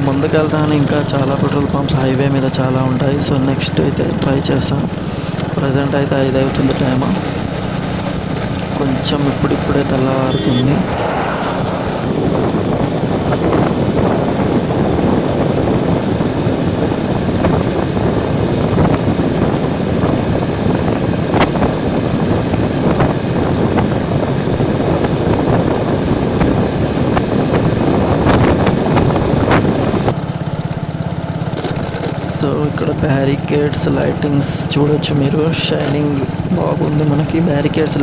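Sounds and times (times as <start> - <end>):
motorcycle engine: 0.0 - 38.0
wind rushing over microphone: 0.0 - 38.0
wind buffeting knocks: 2.7 - 10.1, 10.7 - 38.0.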